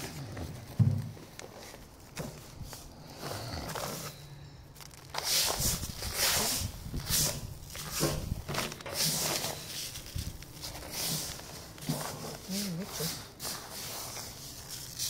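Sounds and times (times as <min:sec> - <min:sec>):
dry seed heads rustling on tarp: 0:01.3 - 0:15.0.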